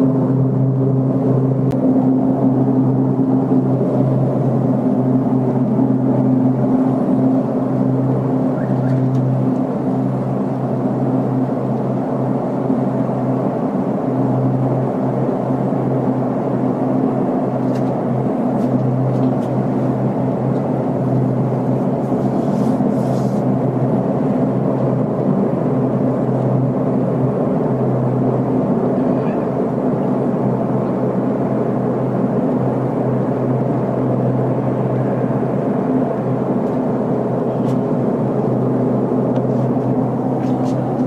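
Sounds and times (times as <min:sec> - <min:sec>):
low droning rumble from sky: 0:00.0 - 0:41.0.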